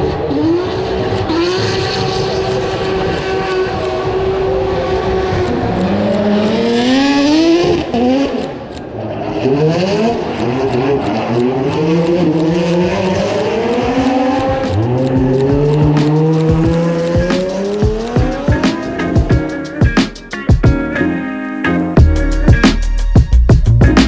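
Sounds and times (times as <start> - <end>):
car engine revving hard: 0.0 - 19.3.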